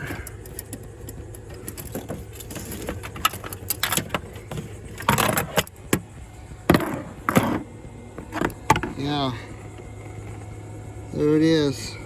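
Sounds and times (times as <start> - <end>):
metallic rattling: 0.0 - 11.0.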